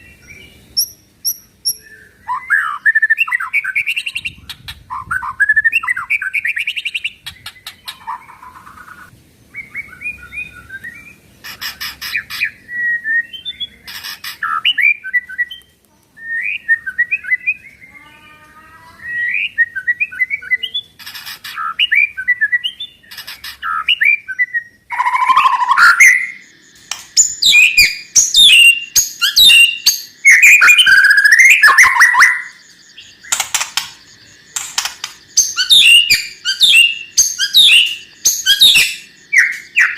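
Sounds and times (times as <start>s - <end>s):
songbird singing with harsh rattles: 0.0s - 39.9s.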